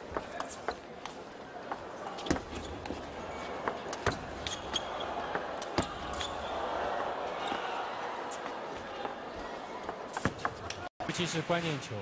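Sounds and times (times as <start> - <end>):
crowd murmur: 0.0 - 10.9.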